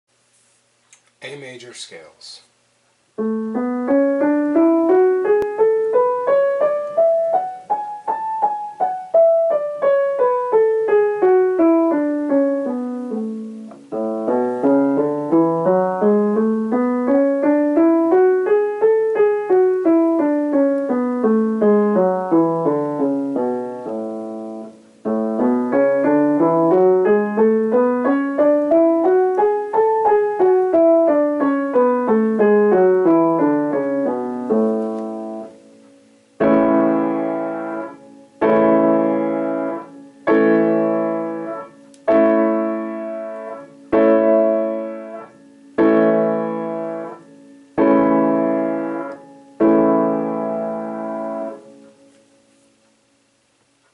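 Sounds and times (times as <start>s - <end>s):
piano playing scales: 3.1s - 52.5s.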